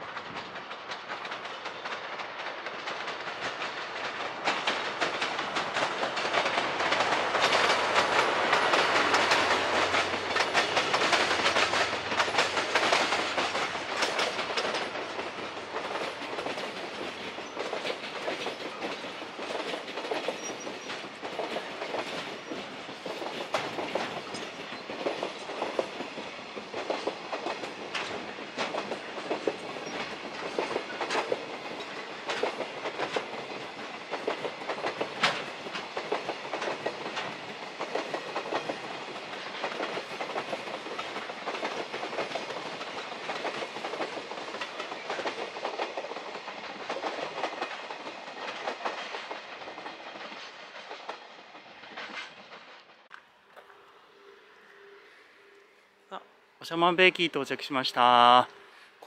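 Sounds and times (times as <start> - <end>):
freight train wheels clattering: 0.0 - 53.2.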